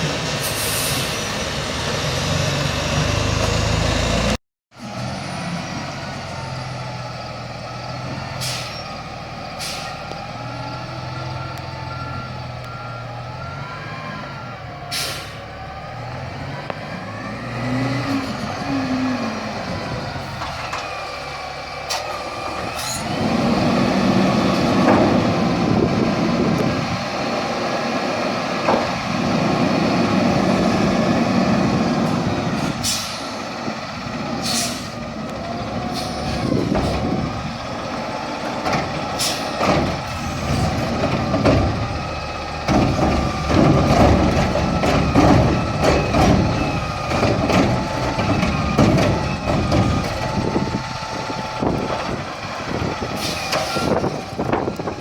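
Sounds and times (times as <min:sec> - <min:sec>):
garbage truck engine: 0:00.0 - 0:55.0.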